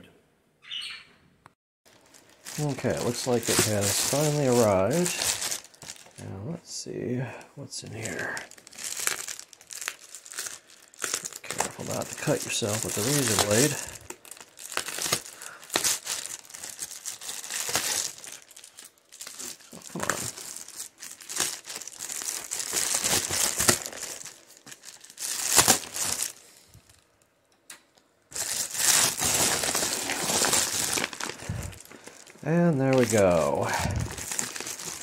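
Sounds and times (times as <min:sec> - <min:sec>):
plastic mailer crinkling: 0:01.9 - 0:06.4, 0:07.8 - 0:27.0, 0:28.3 - 0:35.0.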